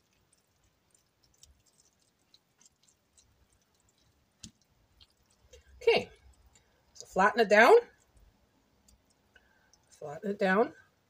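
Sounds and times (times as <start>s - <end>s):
soft squishing of food: 0.0s - 11.0s.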